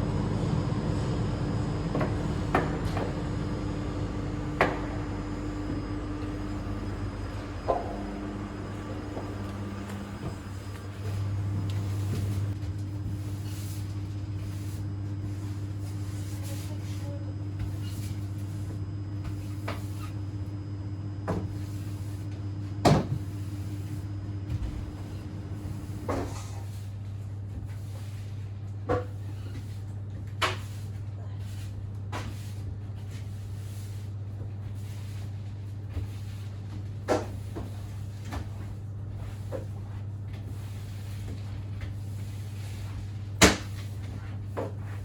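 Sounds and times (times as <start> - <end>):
low electrical hum: 0.0 - 45.0.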